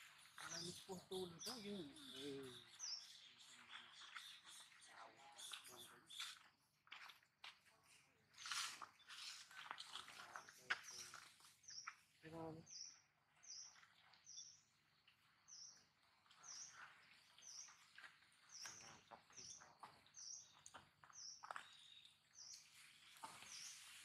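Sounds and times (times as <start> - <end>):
small bird chirping: 0.0 - 7.2, 7.9 - 24.0.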